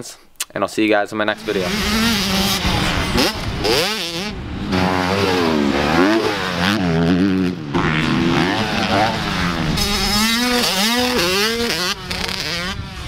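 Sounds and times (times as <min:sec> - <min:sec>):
dirt bike engines revving: 0:01.2 - 0:13.0.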